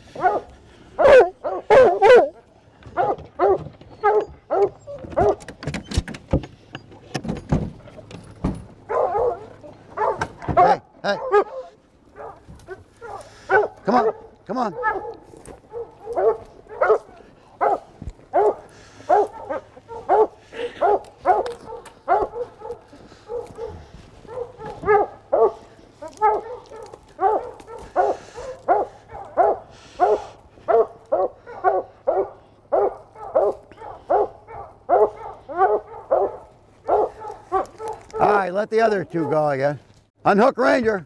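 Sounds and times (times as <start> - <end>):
hounds barking excitedly: 0.0 - 39.8.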